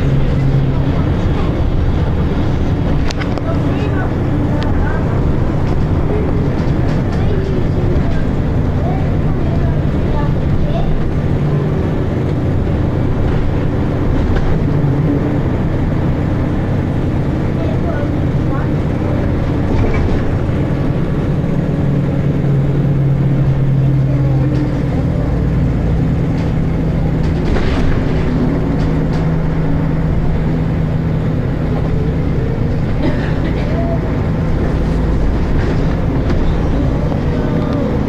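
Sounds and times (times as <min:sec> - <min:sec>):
bus body rattles: 0:00.0 - 0:38.0
bus diesel engine droning: 0:00.0 - 0:38.0.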